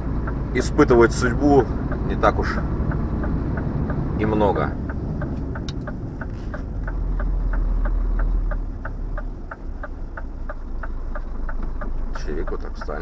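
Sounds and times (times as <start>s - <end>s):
truck engine rumble: 0.0s - 13.0s
turn signal ticking: 0.0s - 13.0s.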